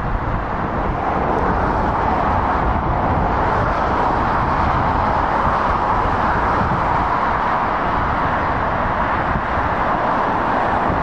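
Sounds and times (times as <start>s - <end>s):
motorway traffic rushing: 0.0s - 11.0s.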